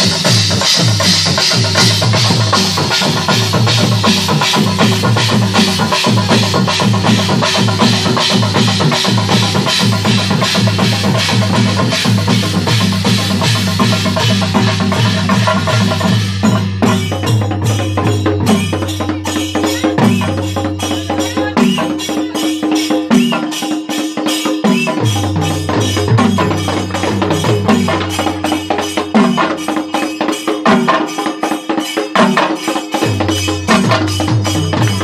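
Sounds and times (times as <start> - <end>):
drum kit and cymbals: 0.0 - 35.0
drums beaten with sticks: 0.0 - 35.0.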